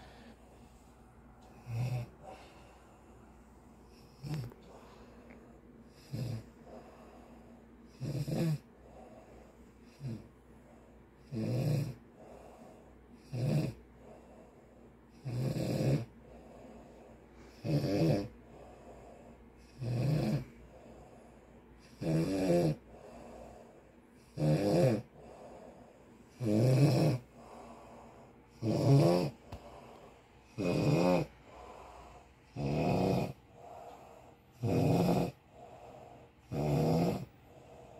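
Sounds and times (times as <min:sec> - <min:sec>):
quiet breathing: 0:00.0 - 0:37.9
loud snores: 0:01.4 - 0:02.5, 0:03.9 - 0:04.9, 0:05.9 - 0:07.3, 0:07.9 - 0:09.2, 0:09.8 - 0:10.3, 0:11.2 - 0:14.4, 0:15.1 - 0:21.2, 0:21.8 - 0:37.9.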